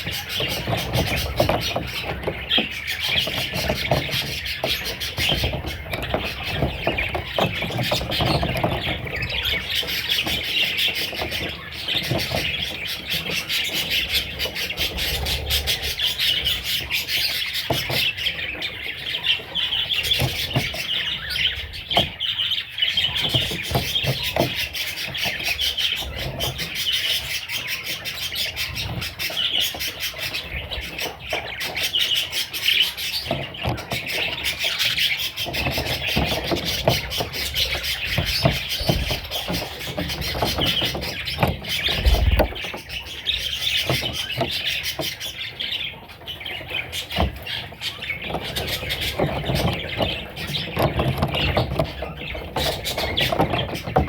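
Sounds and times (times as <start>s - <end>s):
budgerigar chicks chirping: 0.0s - 54.0s.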